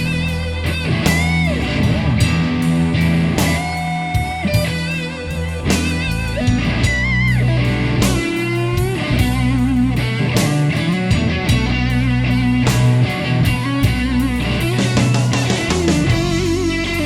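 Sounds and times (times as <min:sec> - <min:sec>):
drums and bass: 0:00.0 - 0:17.0
electric guitar lead: 0:00.0 - 0:17.0.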